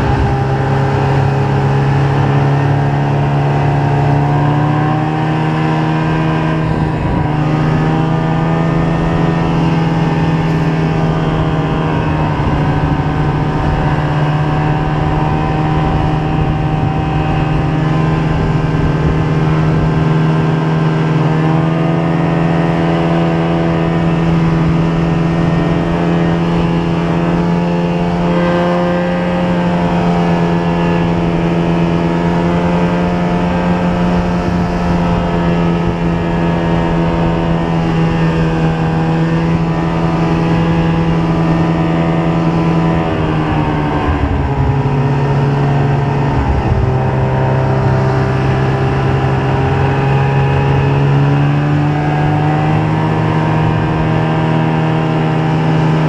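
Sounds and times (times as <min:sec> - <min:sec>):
snowmobile engine droning: 0:00.0 - 0:56.0.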